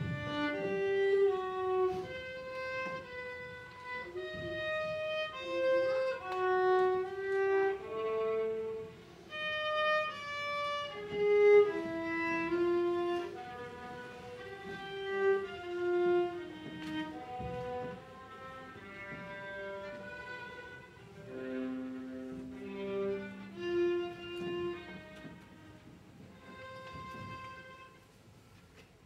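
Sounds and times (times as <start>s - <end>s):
violin playing slow melody: 0.0s - 28.9s.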